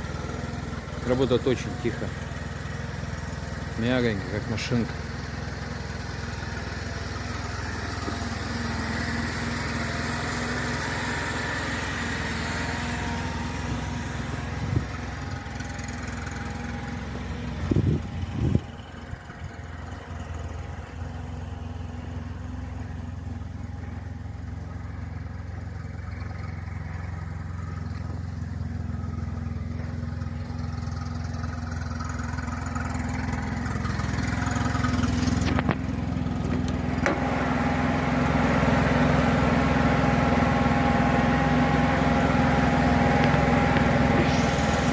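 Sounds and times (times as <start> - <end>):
petrol engine idling: 0.0 - 44.9.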